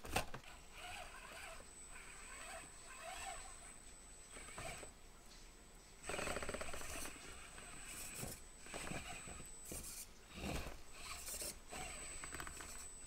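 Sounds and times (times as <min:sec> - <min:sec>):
small electric motor whirring: 0:00.4 - 0:05.0, 0:06.0 - 0:13.0.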